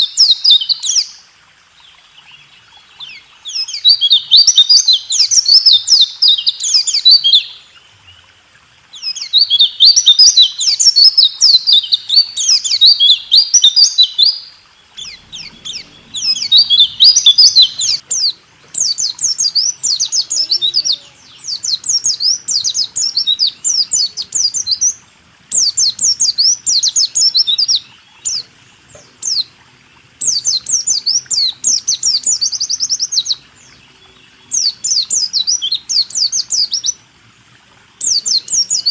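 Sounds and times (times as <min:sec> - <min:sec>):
bird singing rolling trills: 0:00.0 - 0:37.0.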